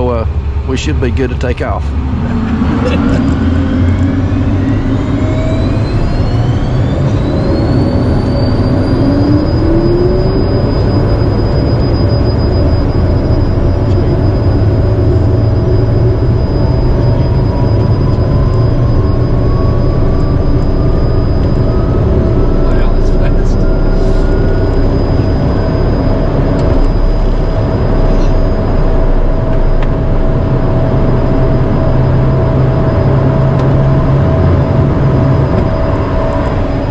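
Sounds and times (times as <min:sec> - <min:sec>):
jet engine whine: 0:00.0 - 0:36.9
low rumble of jet rolling: 0:00.0 - 0:36.9.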